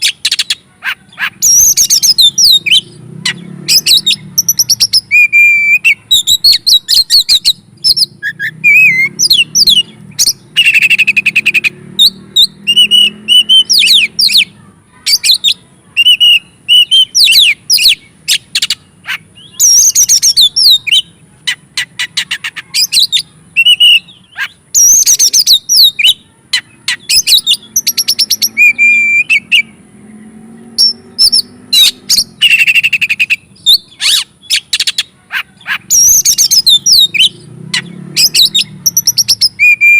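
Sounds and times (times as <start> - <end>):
magpie-robin singing: 0.0 - 29.8, 30.6 - 39.9.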